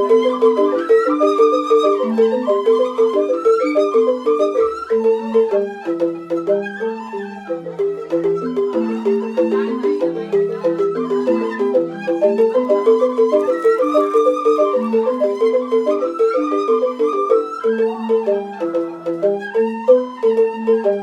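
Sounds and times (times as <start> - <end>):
bamboo xylophones playing: 0.0 - 21.0.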